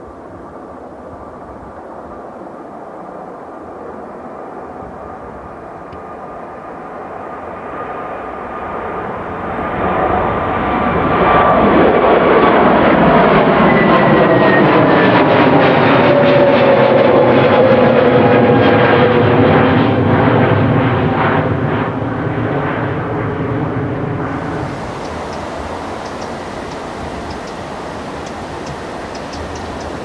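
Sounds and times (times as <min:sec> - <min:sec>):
airliner jet engines droning: 0:00.0 - 0:30.0.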